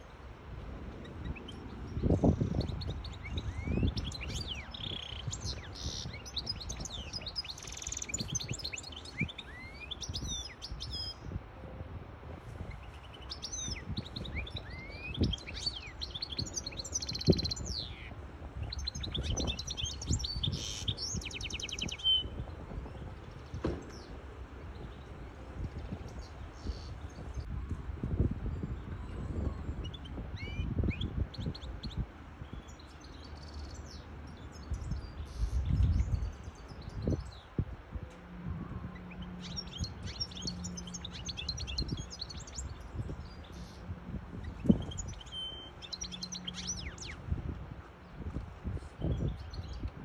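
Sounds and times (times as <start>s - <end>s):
finch twittering song: 1.0s - 11.4s, 12.6s - 50.0s.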